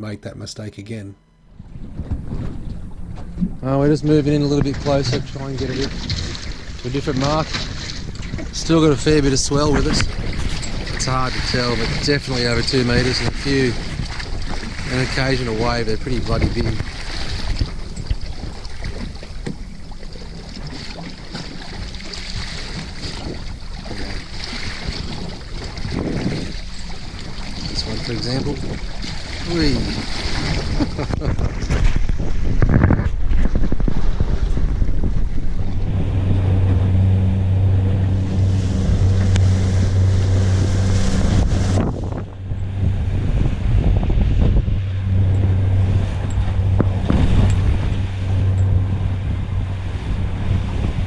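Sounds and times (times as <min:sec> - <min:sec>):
outboard motor running: 0:01.2 - 0:51.0
water sloshing and splashing: 0:01.5 - 0:51.0
wind buffeting microphone: 0:01.5 - 0:51.0.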